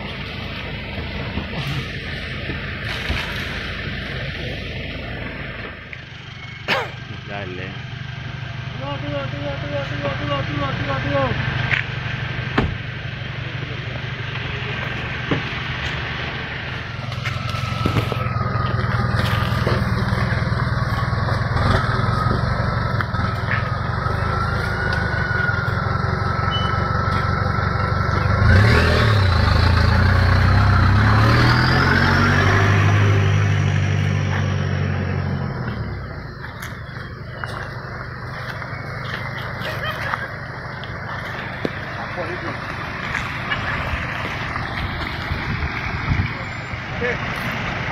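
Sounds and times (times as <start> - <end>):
engine pulling in low gear: 0.0 - 47.9.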